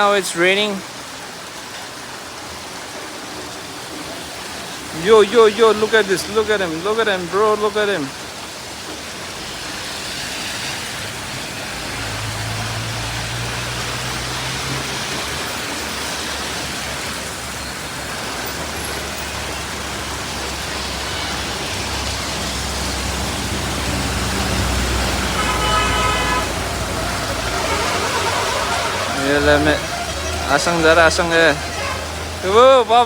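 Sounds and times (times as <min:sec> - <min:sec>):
rain hissing: 0:00.0 - 0:33.0
vehicle engines humming: 0:02.4 - 0:33.0.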